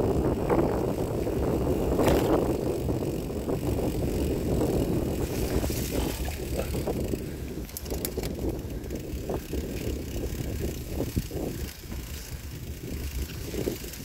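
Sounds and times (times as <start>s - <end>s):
bicycle tyres rumbling on grass: 0.0s - 14.0s
bike knocking and rattling: 0.0s - 14.0s
wind buffeting microphone: 0.0s - 14.0s.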